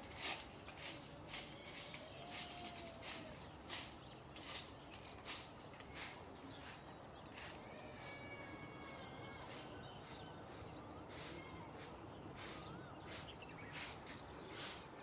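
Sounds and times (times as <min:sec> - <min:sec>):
bird chirps and calls: 0:00.6 - 0:15.0.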